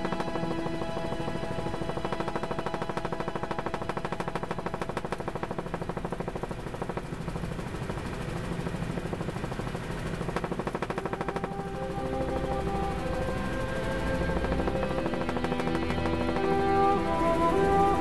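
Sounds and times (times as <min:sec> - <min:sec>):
faint music: 0:00.0 - 0:18.0
helicopter engine noise: 0:00.0 - 0:18.0
helicopter rotor chop: 0:00.0 - 0:18.0.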